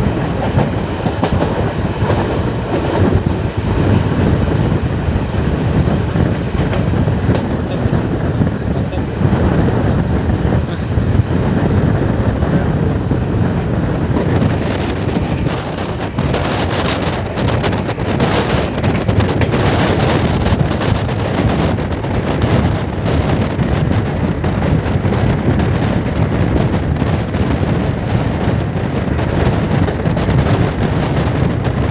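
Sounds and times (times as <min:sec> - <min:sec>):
train wheels rumbling on rails: 0:00.0 - 0:31.9
wind buffeting microphone: 0:00.0 - 0:31.9.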